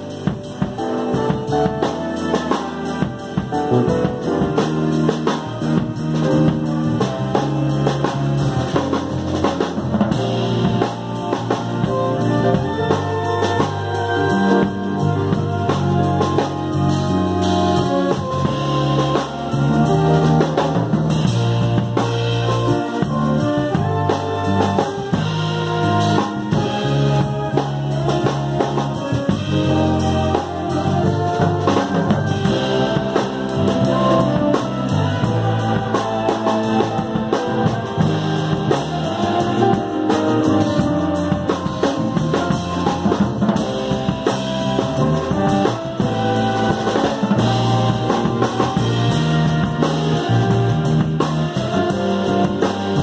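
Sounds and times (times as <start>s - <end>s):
jazz big band playing: 0.0s - 53.0s
loud drum kit: 0.0s - 53.0s.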